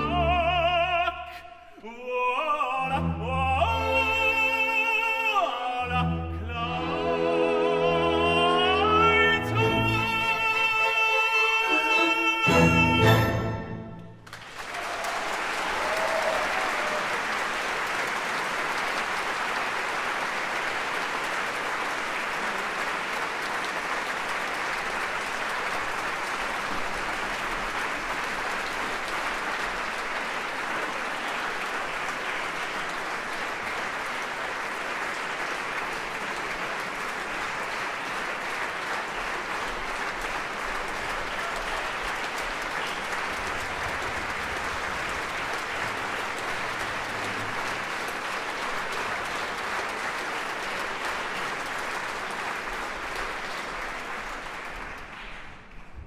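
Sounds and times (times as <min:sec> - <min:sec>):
audience applauding: 0:06.5 - 0:56.0.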